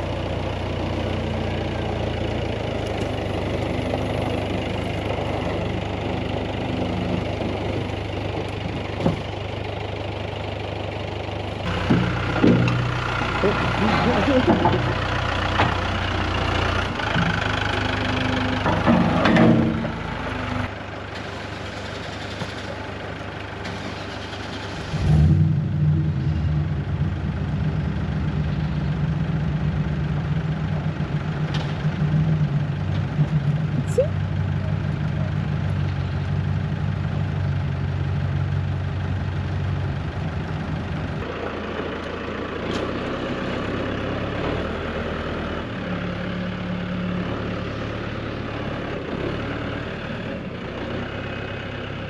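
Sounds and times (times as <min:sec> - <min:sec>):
low engine note: 0:00.0 - 0:52.0
vehicle engine running: 0:00.0 - 0:52.0.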